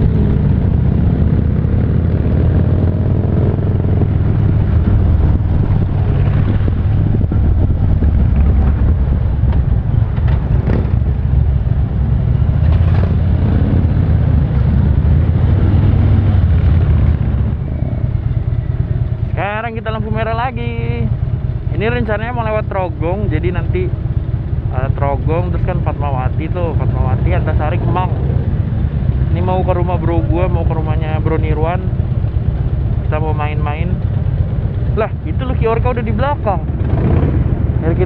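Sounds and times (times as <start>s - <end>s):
motorcycle engine drone: 0.0s - 38.0s
wind and road noise: 0.0s - 38.0s.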